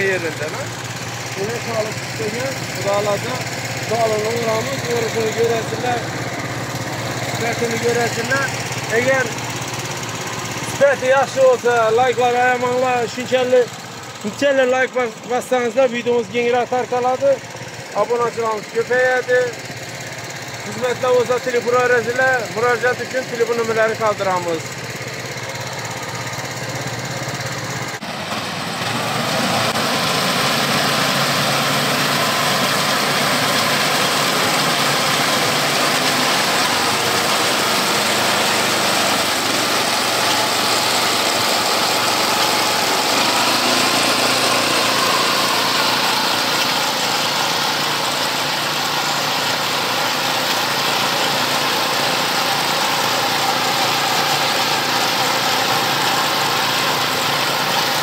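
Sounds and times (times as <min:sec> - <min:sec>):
cutter bar mowing rice: 0:00.0 - 0:58.0
small petrol engine running: 0:00.0 - 0:58.0.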